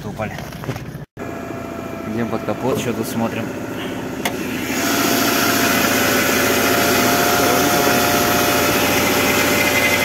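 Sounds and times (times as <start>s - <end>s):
car engine idling: 1.2s - 10.0s.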